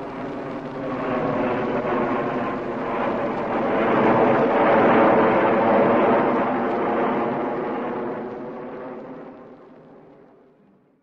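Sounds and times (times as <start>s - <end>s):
jet airliner flying overhead: 0.0s - 10.9s.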